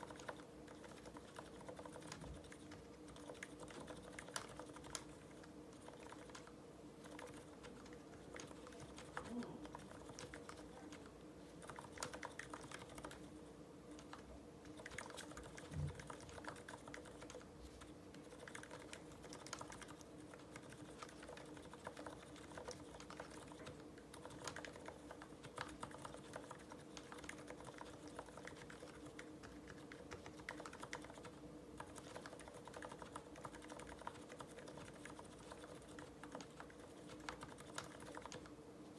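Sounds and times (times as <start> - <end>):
soft keyboard typing: 0.0 - 38.6
faint steady hum: 0.0 - 38.9.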